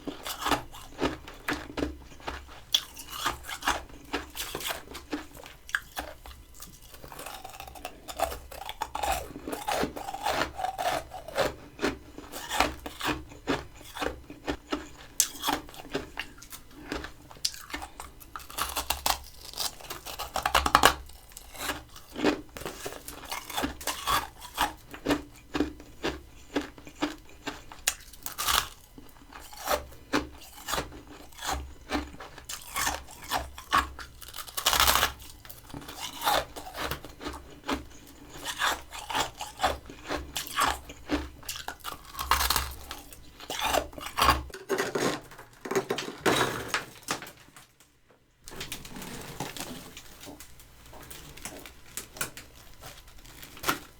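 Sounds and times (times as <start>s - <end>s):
chewing crunchy frost: 0.0s - 44.6s, 48.8s - 53.9s.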